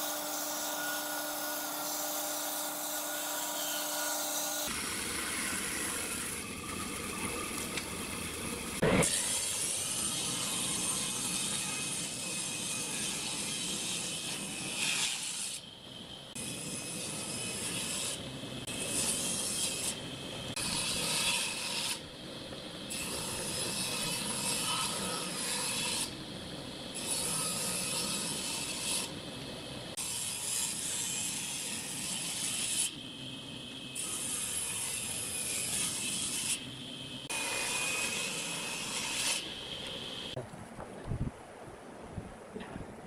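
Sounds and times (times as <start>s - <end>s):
table saw cutting wood: 0.0s - 22.0s, 22.8s - 26.2s, 26.9s - 29.2s, 29.9s - 40.4s.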